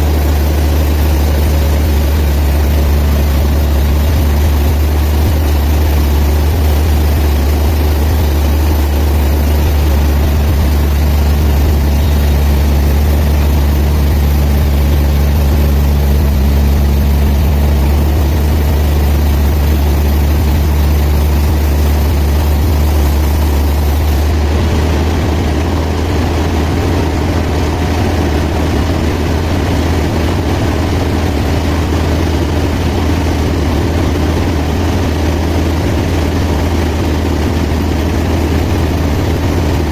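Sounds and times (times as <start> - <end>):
band sawmill humming: 0.0 - 39.9.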